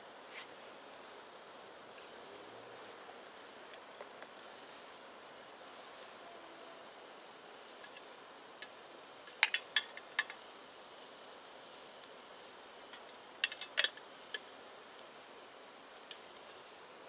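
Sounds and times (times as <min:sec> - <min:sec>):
gas stove burner hissing: 0:00.0 - 0:17.0.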